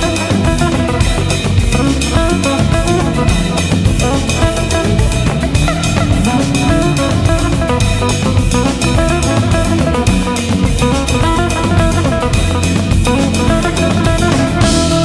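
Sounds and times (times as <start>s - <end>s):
drum kit beat: 0.0s - 15.0s
guitar: 0.0s - 15.0s.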